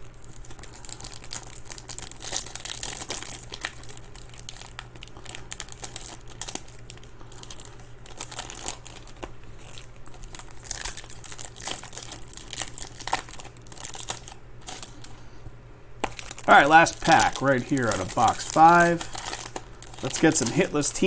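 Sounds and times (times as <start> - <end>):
foil wrappers crinkling and tearing: 0.0 - 15.4, 16.0 - 21.0.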